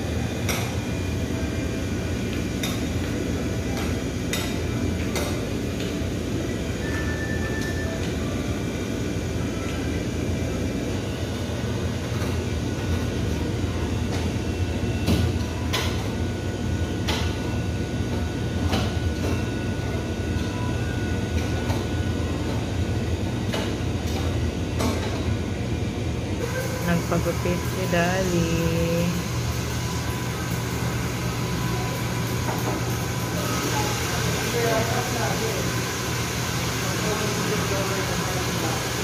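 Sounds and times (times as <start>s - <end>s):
low rumble of shop machinery: 0.0s - 39.0s.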